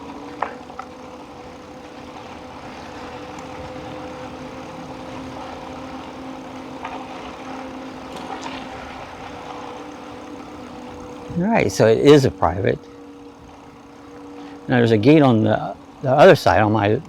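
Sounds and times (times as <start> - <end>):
low drone: 0.0 - 17.0
motor hum: 0.0 - 17.0.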